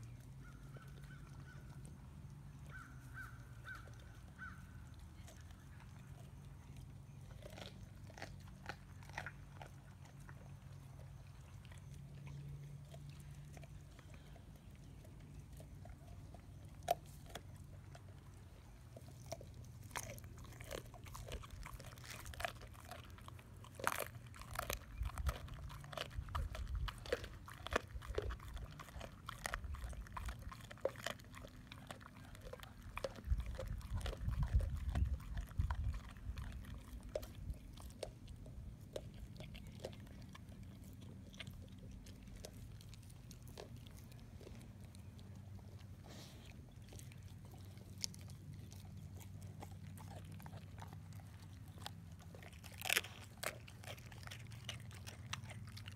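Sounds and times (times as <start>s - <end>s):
dog chewing with wet crunches: 0.0s - 55.9s.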